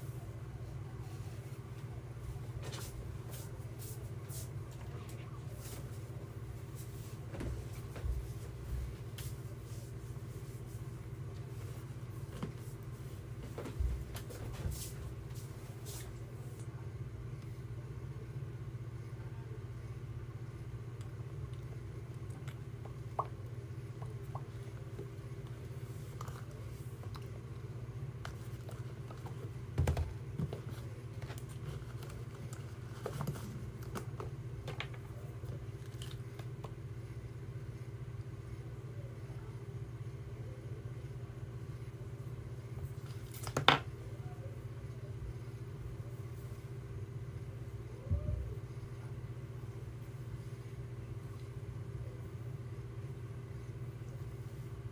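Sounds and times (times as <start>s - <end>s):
low room hum: 0.0s - 54.9s.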